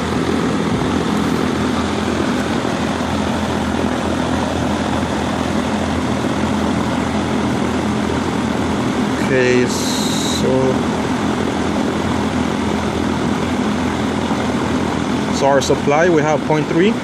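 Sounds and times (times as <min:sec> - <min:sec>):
low hum: 0:00.0 - 0:15.6
air conditioner blower rushing: 0:00.0 - 0:17.0.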